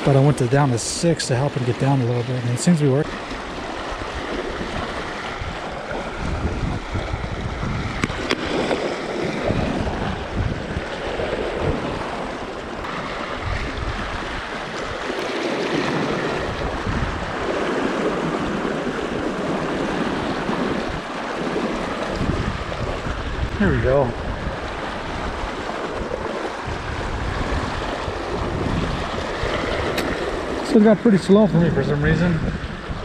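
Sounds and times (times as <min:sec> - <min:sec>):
river water rushing: 0:00.0 - 0:33.0
wind gusting on microphone: 0:00.0 - 0:33.0.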